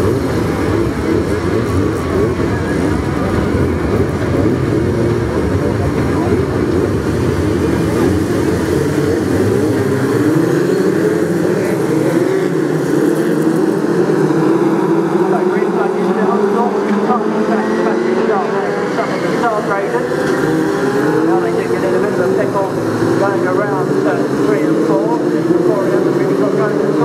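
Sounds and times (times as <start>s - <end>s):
stock car engines revving: 0.0s - 27.0s.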